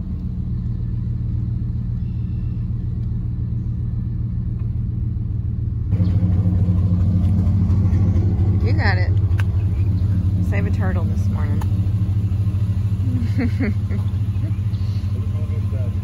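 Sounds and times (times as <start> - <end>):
truck engine hum outside: 0.0 - 16.0
truck engine rumble inside cab: 0.0 - 16.0.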